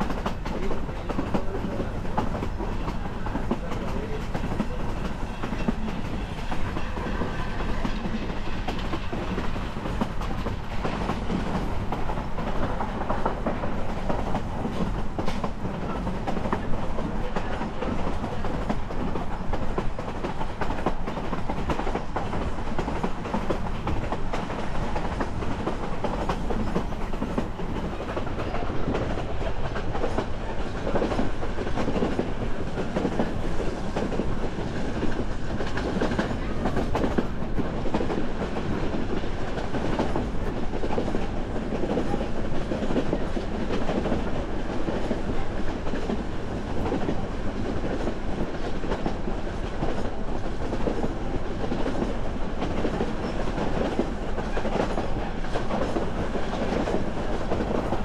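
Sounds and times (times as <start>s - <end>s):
train coach rumbling and rattling: 0.0s - 58.0s.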